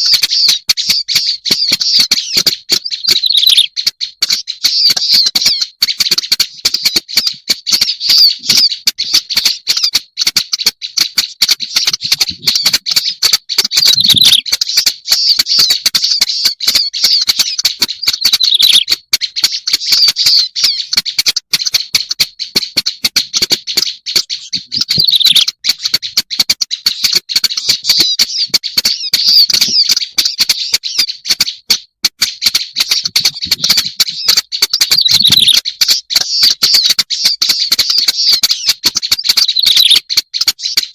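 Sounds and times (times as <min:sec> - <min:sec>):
reed warbler song: 0:00.0 - 0:40.9.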